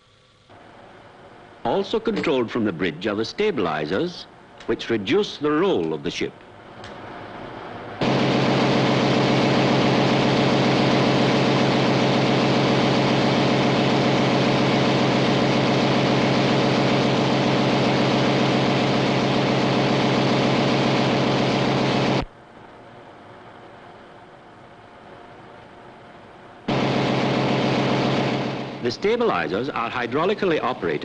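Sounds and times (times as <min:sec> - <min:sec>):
engine room machinery humming: 0:00.0 - 0:31.0.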